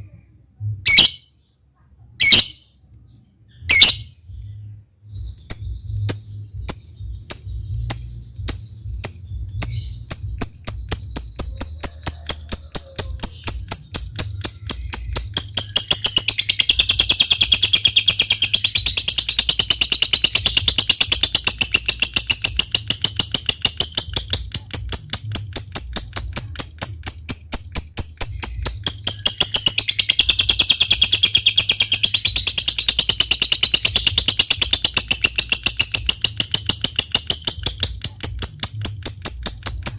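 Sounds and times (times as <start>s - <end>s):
lovebird chattering trill: 0.9s - 1.3s, 2.2s - 2.7s, 3.5s - 4.2s, 5.2s - 39.9s
steady low hum: 1.5s - 39.9s.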